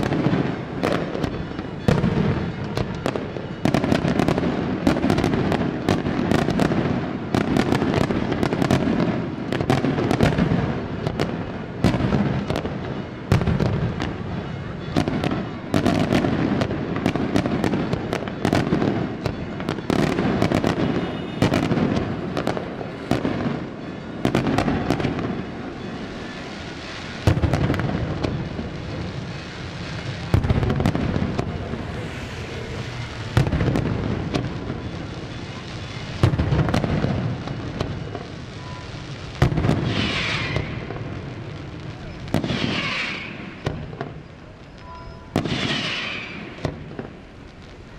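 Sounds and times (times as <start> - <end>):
fireworks bangs: 0.0 - 47.9
heavy fireworks booms: 0.0 - 47.9.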